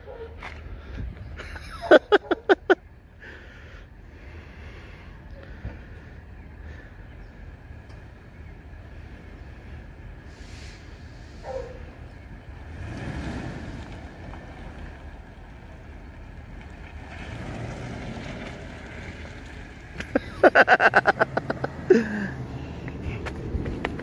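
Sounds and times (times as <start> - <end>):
vehicle engine and tyres rumble: 0.0 - 24.0.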